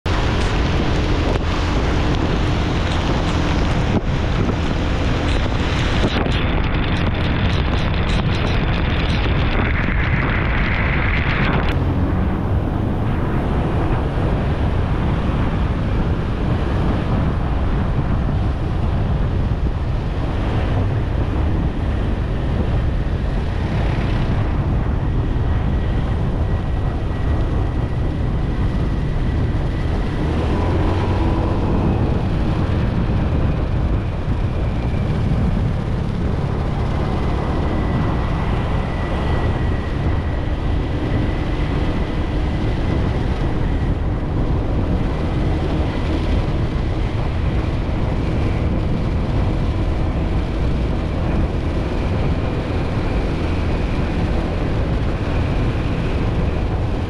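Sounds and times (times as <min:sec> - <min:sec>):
scooter road and engine noise: 0:00.0 - 0:57.0
wind rushing over microphone: 0:00.0 - 0:57.0.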